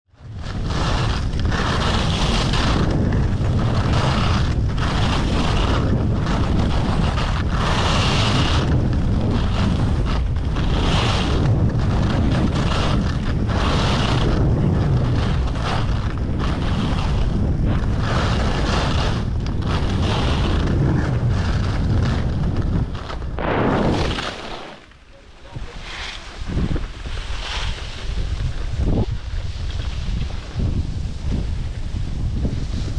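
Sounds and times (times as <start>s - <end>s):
wind buffeting microphone: 0.1s - 32.9s
skis hissing on snow: 0.4s - 32.9s.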